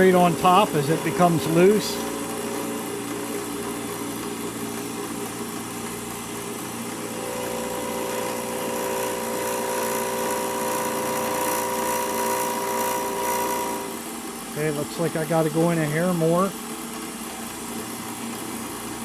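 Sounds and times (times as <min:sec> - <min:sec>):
milling machine hum and whine: 0:00.0 - 0:19.0.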